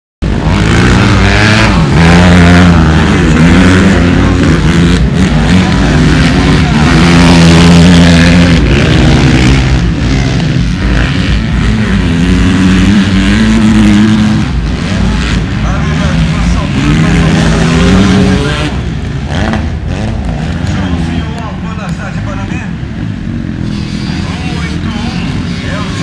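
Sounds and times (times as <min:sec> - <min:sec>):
motorcycle engines revving: 0:00.2 - 0:26.0.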